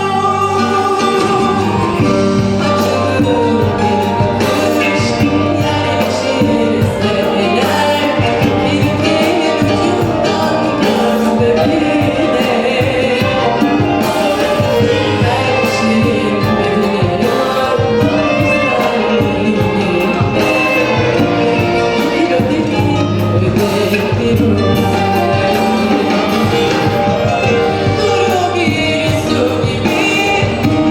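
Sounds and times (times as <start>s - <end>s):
song with instruments and singing: 0.0s - 30.9s.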